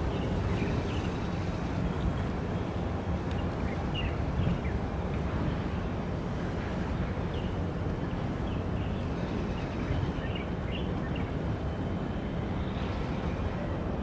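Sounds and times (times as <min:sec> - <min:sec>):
low rumbling outdoor noise: 0:00.0 - 0:14.0.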